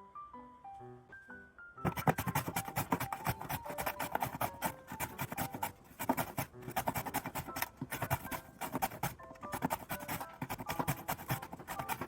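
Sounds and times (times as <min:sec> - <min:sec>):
light background music: 0:00.0 - 0:12.0
knife cutting root: 0:01.9 - 0:12.0.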